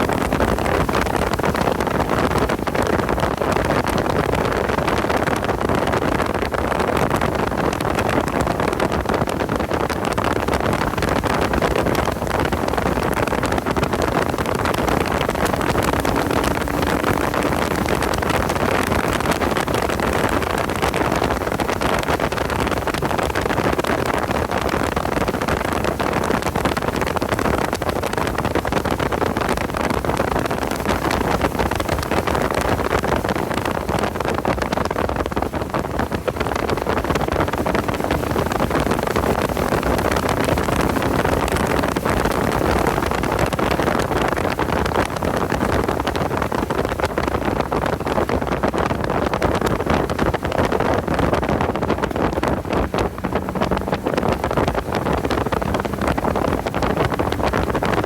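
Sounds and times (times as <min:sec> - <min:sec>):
car engine at speed: 0:00.0 - 0:58.0
wind and road noise: 0:00.0 - 0:58.0.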